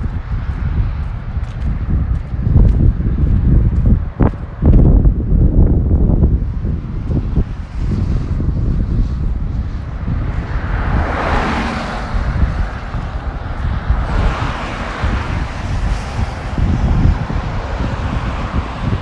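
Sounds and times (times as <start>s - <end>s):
traffic passing on road: 0.0s - 19.0s
wind buffeting microphone: 0.0s - 19.0s.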